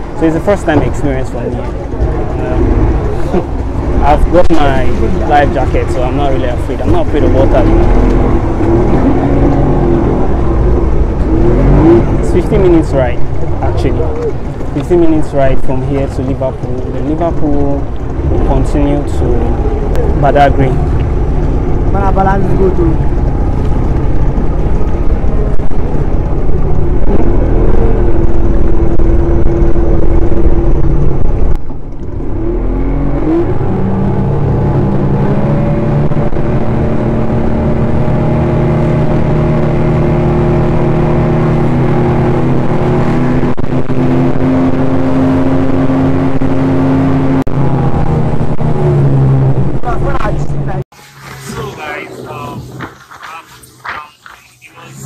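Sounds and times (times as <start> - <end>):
wind rumble: 0.0 - 50.9.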